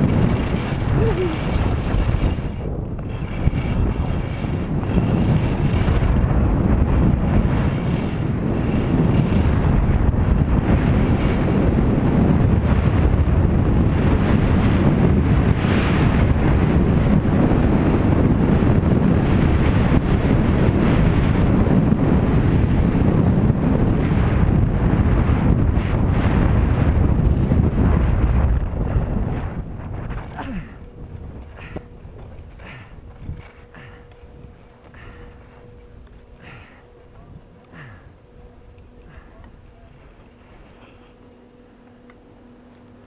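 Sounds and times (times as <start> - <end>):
wind buffeting microphone: 0.0 - 40.8.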